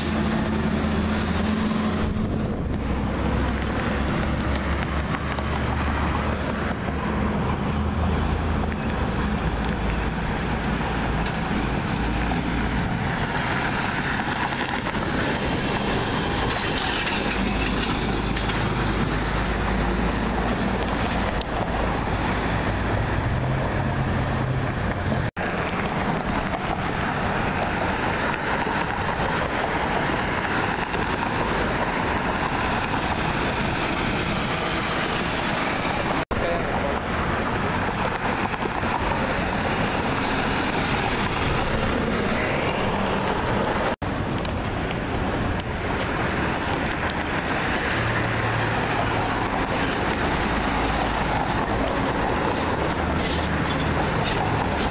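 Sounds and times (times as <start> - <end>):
cars and trucks driving by: 0.0 - 54.9
tyre and road rush: 0.0 - 54.9.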